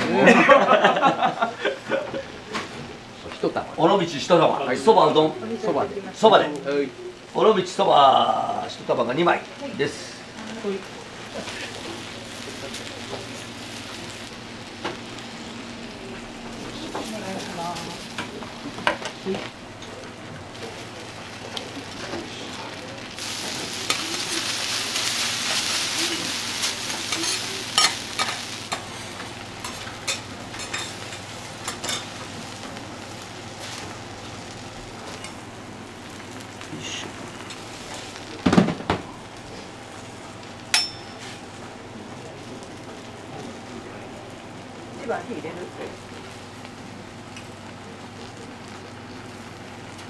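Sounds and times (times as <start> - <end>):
food sizzling on a griddle: 0.1 - 50.0.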